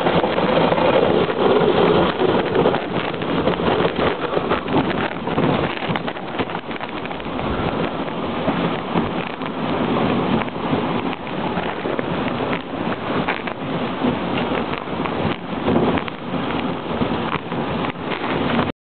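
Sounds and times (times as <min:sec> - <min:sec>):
sled runners rushing on snow: 0:00.0 - 0:18.7
wind on microphone: 0:00.0 - 0:18.7.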